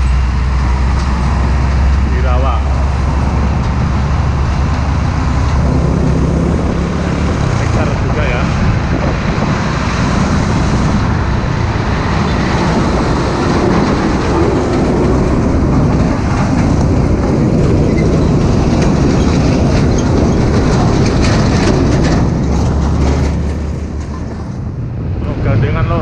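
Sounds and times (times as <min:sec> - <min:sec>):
diesel truck engine rumble: 0:00.0 - 0:26.0
tyre and road noise: 0:00.0 - 0:26.0.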